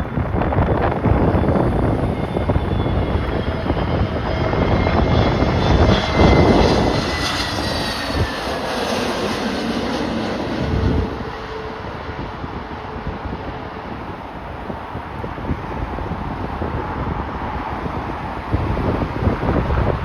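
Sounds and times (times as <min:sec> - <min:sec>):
jet engine whine: 0:00.0 - 0:20.0
wind buffeting microphone: 0:00.0 - 0:20.0.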